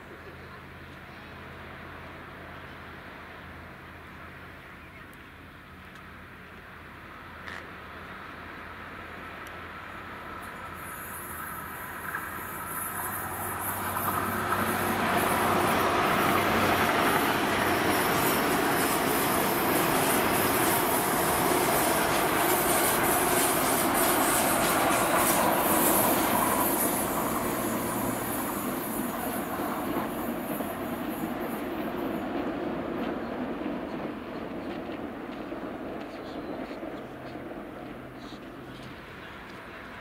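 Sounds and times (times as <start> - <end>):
diesel passenger train passing: 0.0 - 40.0.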